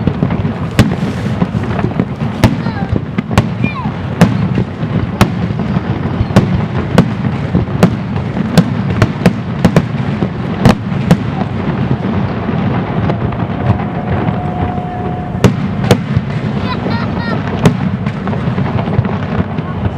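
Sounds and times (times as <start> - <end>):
fireworks bursting with sharp bangs: 0.0 - 19.9
low rumble of booms: 0.0 - 19.9.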